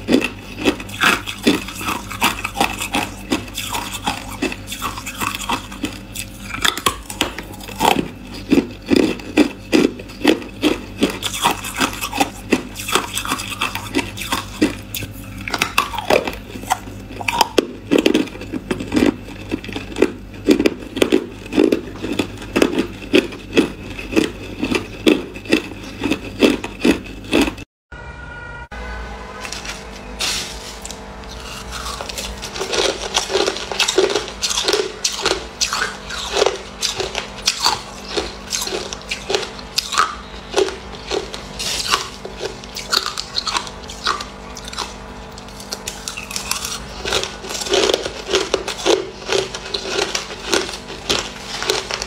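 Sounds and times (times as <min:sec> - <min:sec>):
person crunching ice: 0:00.0 - 0:27.6, 0:30.8 - 0:52.0.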